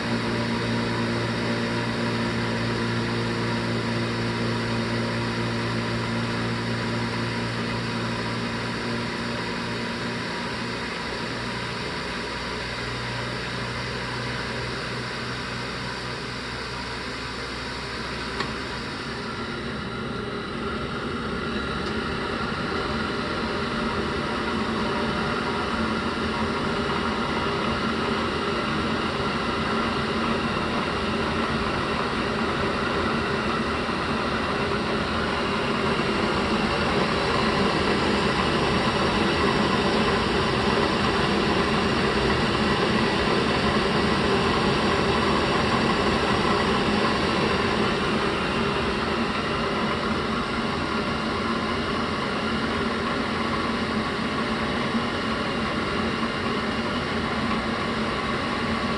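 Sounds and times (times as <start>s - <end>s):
gas boiler whooshing drone: 0.0s - 58.9s.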